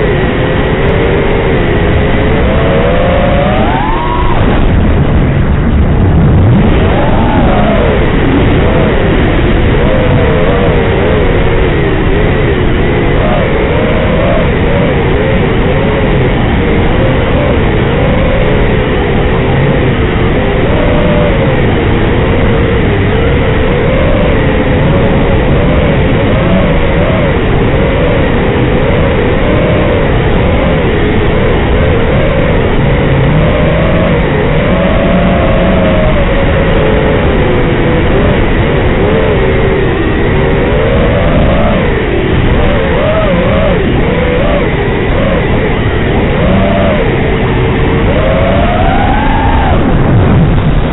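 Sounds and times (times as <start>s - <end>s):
quadcopter motors whining: 1.1s - 18.9s, 19.6s - 50.9s.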